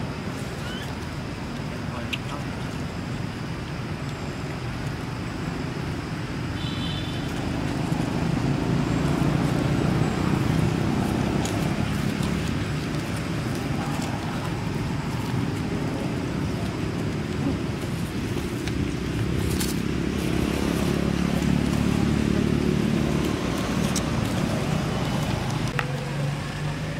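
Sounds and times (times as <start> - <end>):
low rumble of outdoor background noise: 0.0 - 26.9.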